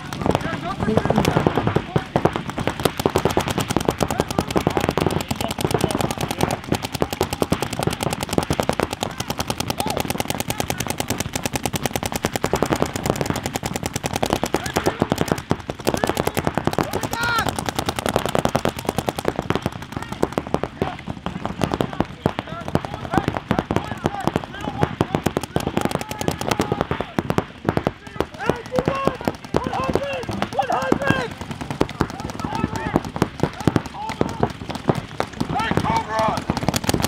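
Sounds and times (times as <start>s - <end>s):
paintball markers firing: 0.0s - 37.0s.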